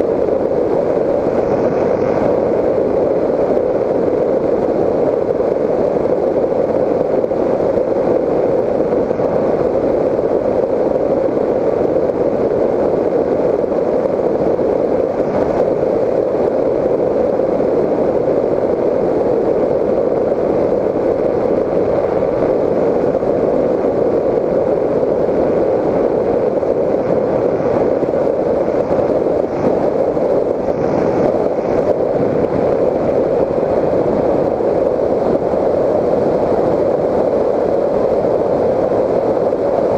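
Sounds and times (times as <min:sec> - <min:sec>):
rush of airflow: 0:00.0 - 0:39.9.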